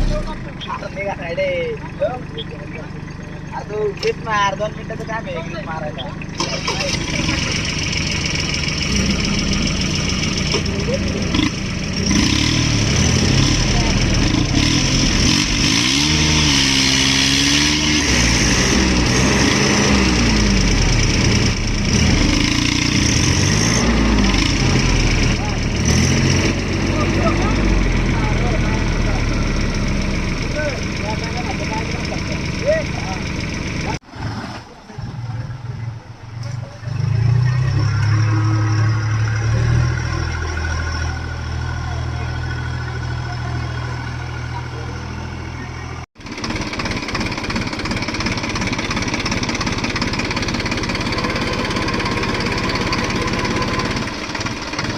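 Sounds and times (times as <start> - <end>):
tractor diesel engine revving: 0.0 - 54.9.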